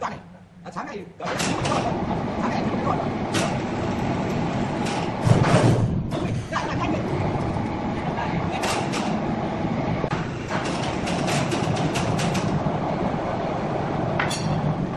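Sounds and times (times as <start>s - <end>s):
sawmill machinery running: 1.3s - 14.9s.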